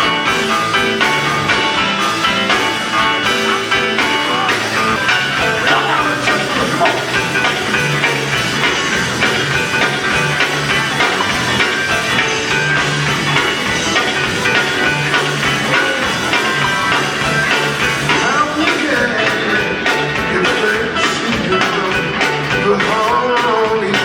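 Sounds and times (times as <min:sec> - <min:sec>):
bass line: 0:00.0 - 0:24.0
drums: 0:00.0 - 0:24.0
live gospel band music: 0:00.0 - 0:24.0.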